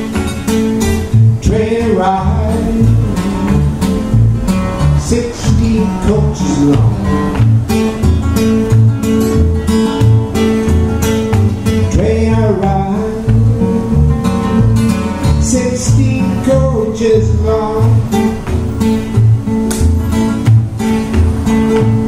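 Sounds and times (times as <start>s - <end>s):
acoustic guitars strummed and picked: 0.0s - 22.0s.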